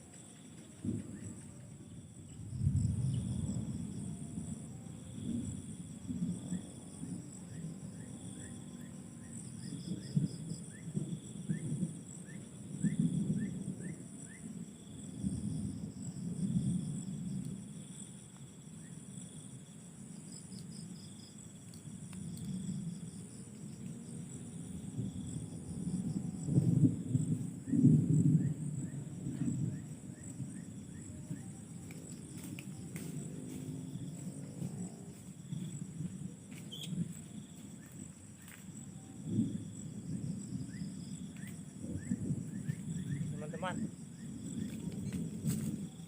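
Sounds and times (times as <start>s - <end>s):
crickets chirring: 0.0s - 46.0s.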